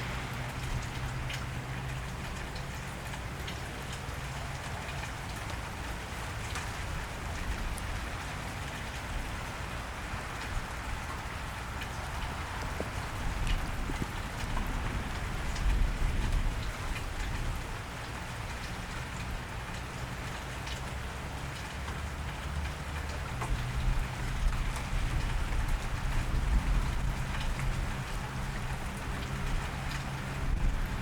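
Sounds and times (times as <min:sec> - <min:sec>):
rain falling on wet street: 0:00.0 - 0:31.0.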